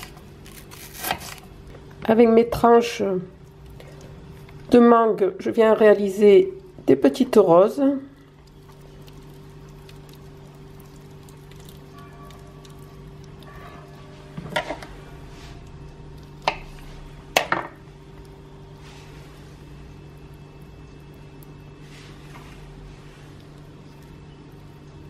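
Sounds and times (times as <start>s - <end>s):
low hum: 3.2s - 25.0s.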